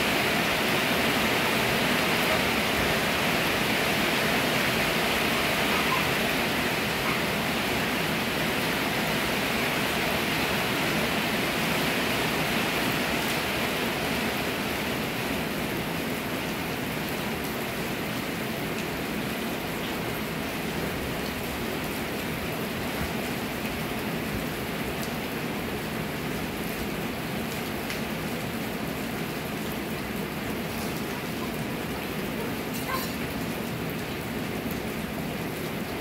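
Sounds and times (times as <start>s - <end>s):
rain on metal roof: 0.0s - 36.0s.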